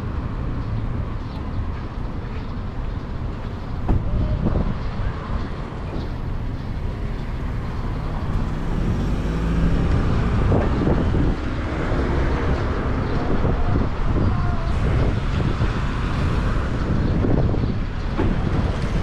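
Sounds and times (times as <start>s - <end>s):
vehicles passing with low rumble: 0.0s - 19.0s.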